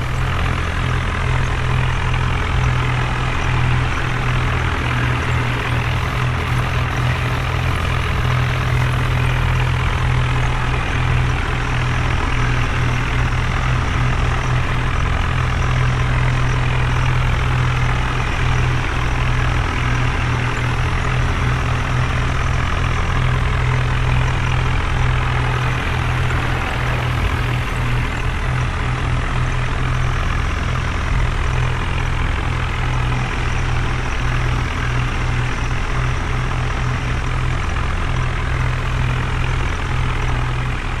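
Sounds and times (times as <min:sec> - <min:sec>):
diesel machinery engine humming: 0:00.0 - 0:41.0.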